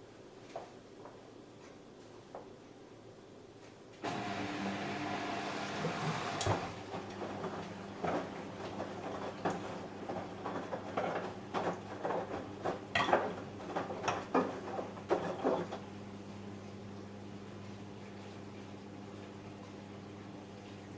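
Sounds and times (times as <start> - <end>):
washing machine humming: 4.0 - 20.9.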